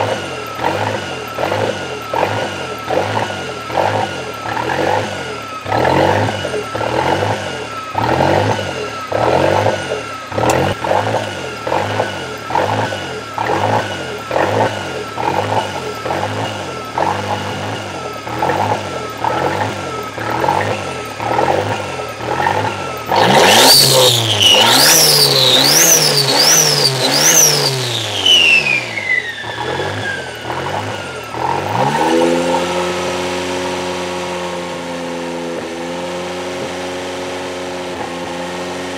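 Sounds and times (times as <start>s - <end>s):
car engine rough idle and revving: 0.0s - 38.9s.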